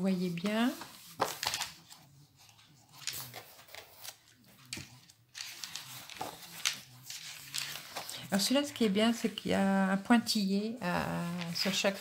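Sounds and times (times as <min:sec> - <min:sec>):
paper pages rustling: 0:00.0 - 0:09.7, 0:11.0 - 0:12.0.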